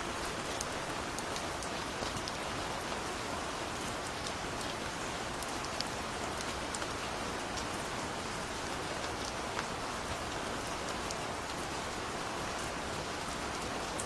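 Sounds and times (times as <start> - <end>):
gentle rain falling: 0.0 - 14.0.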